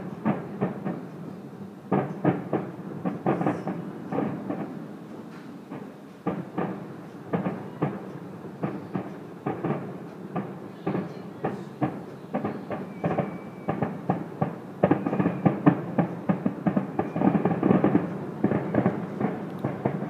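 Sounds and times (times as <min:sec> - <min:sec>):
fireworks bangs and pops: 0:00.1 - 0:01.1, 0:01.9 - 0:04.8, 0:05.7 - 0:20.0.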